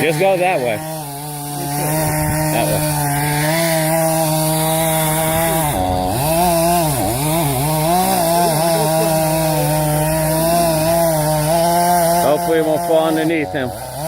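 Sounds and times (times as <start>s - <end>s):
chainsaw cutting tree trunk: 0.0s - 14.0s.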